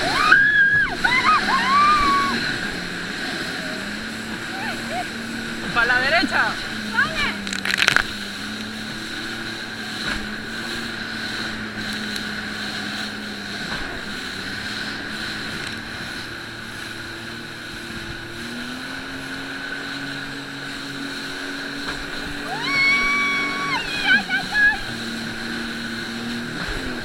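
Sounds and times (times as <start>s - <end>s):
jet ski engine running: 0.0s - 27.0s.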